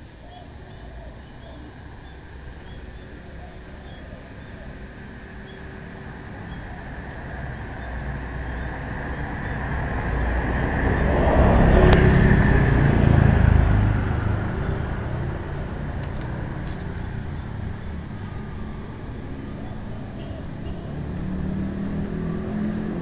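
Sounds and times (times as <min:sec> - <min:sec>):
motor scooter passing: 0:00.0 - 0:23.0.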